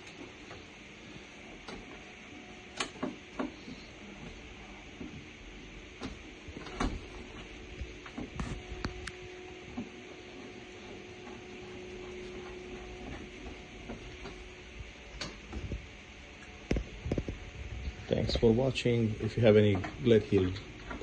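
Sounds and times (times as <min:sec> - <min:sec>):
heating system hum and hiss: 0:00.0 - 0:21.0.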